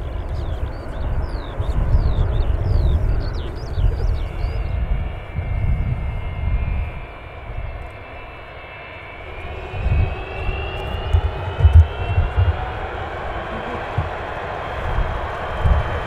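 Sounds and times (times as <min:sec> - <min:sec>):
distant jet engine whine: 0:00.0 - 0:16.0
low rumble: 0:00.0 - 0:16.0.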